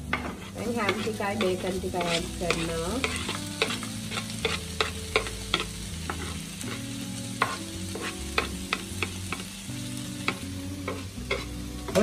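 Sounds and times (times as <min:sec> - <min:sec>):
ham and onions sizzling in a wok: 0:00.0 - 0:12.0.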